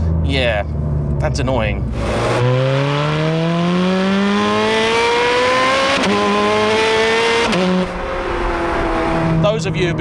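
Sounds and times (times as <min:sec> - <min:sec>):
sports car engine accelerating: 0:00.0 - 0:10.0.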